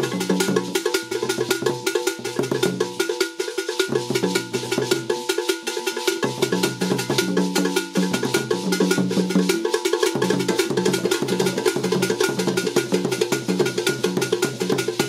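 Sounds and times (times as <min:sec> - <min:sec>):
hand drums dance rhythm: 0:00.0 - 0:15.0.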